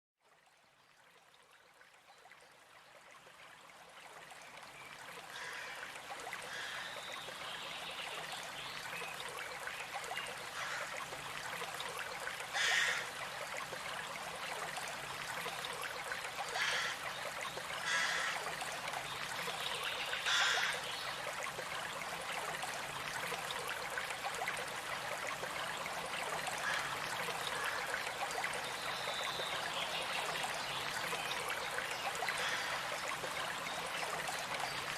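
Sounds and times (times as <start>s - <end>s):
stream water running: 0.2s - 34.9s.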